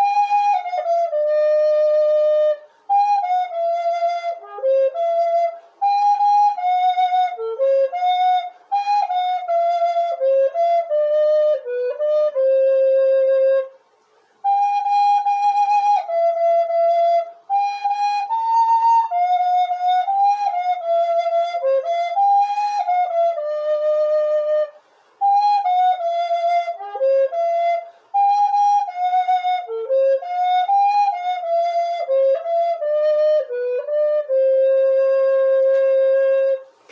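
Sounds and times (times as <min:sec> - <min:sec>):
solo flute melody: 0:00.0 - 0:36.9.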